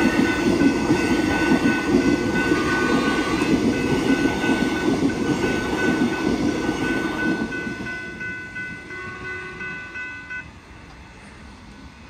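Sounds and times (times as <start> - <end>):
level crossing warning bells: 0.0 - 11.2
train wheels clacking on rails: 0.0 - 12.0.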